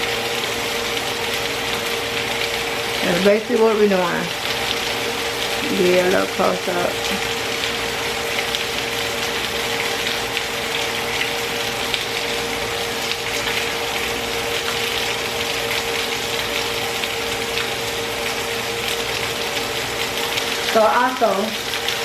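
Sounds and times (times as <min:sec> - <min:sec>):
chicken sizzling in a frying pan: 0:00.0 - 0:22.0
grease crackling and popping: 0:00.0 - 0:22.0
steady hum: 0:00.0 - 0:22.0.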